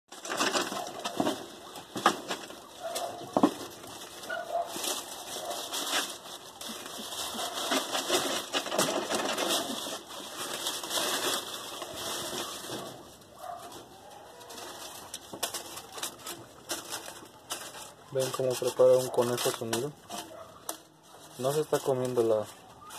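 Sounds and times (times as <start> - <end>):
dry corn husks rustling: 0.1 - 22.9.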